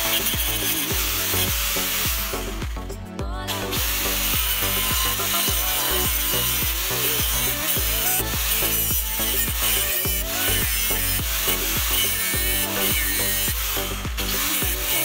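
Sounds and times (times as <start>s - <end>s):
angle grinder cutting steel: 0.0s - 15.0s
background music with steady beat: 0.0s - 15.0s.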